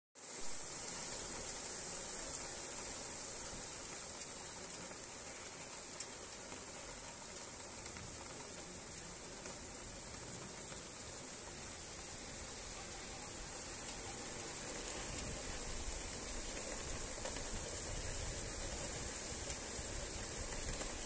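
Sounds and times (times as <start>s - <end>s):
rain on pavement: 0.2s - 21.0s.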